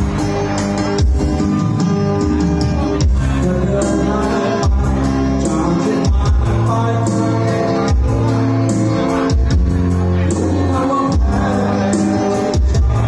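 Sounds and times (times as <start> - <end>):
music with singing: 0.0 - 13.0
sustained bass: 0.0 - 13.0.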